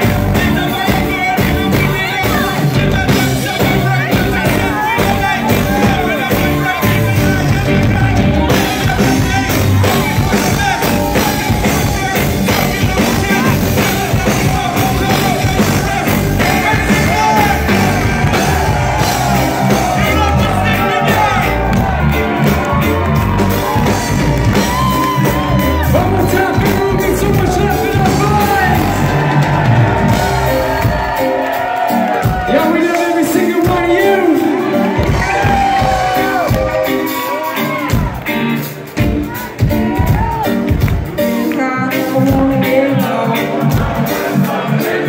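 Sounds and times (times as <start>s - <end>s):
person singing: 0.0s - 29.5s, 32.2s - 45.0s
live rock band playing: 0.0s - 45.0s.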